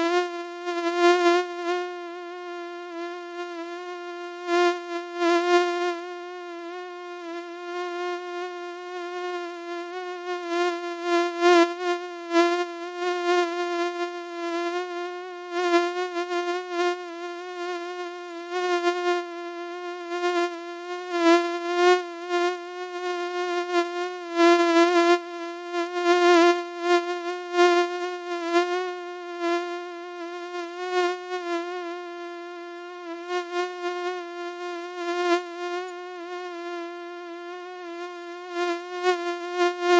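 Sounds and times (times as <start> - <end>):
mosquito buzzing: 0.0 - 39.9.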